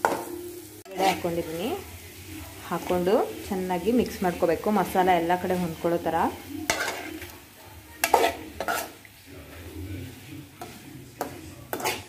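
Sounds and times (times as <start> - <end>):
metal spoon stirring in frying pan: 0.0 - 12.0
spoon scraping against pan: 0.0 - 12.0.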